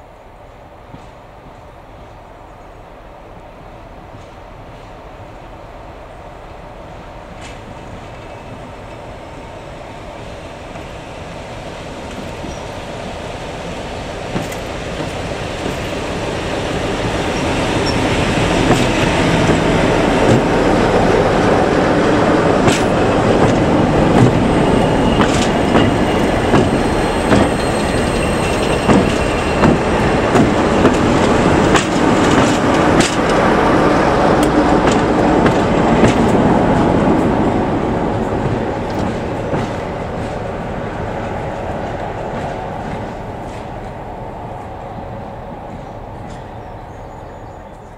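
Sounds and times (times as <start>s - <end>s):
diesel locomotive engine: 0.0s - 47.9s
train wheels clicking on track: 7.3s - 46.8s.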